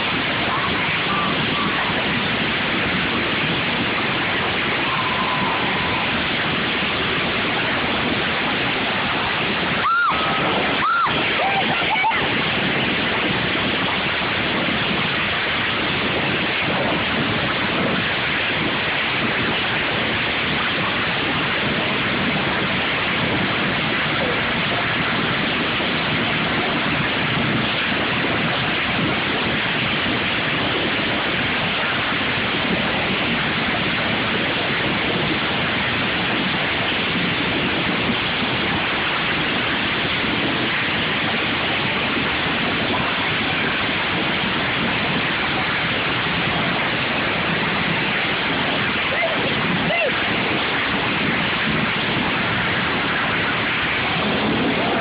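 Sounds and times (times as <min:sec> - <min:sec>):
racing lawn mower engines: 0:00.0 - 0:55.0.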